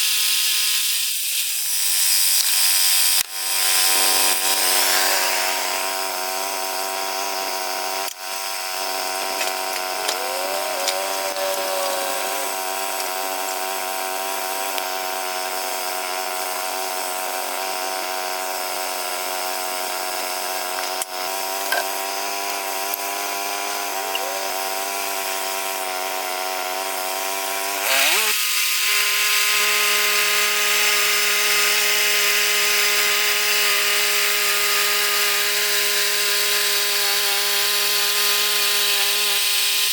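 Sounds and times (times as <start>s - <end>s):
sawmill engine running and revving: 3.4s - 39.9s.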